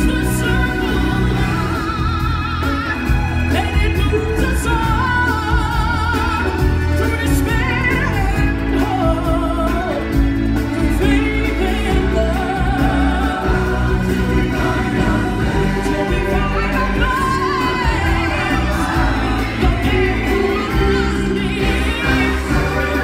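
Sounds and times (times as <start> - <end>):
band backing music: 0.0 - 23.0.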